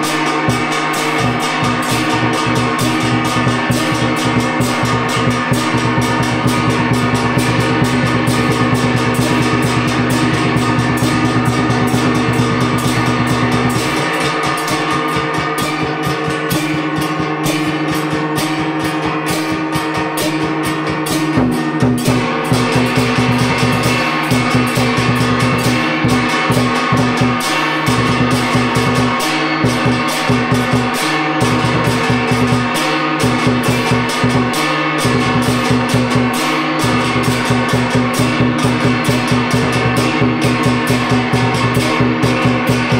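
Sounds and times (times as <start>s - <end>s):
big barrel drum beat: 0.0s - 42.9s
gongs struck with mallets: 0.0s - 42.9s
ringing gong drone: 0.0s - 42.9s.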